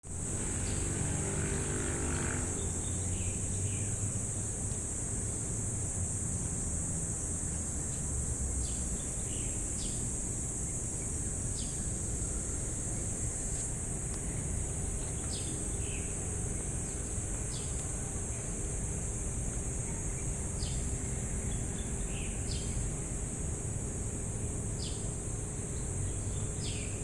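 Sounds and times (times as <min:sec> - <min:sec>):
crickets trilling: 0:00.1 - 0:27.0.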